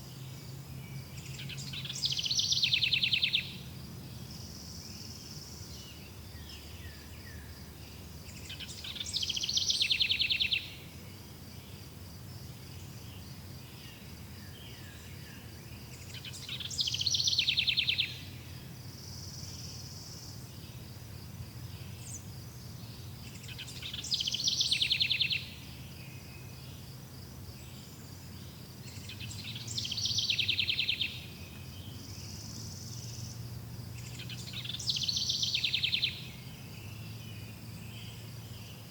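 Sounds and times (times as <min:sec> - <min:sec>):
songbird singing with buzzy trill: 0:00.0 - 0:38.9.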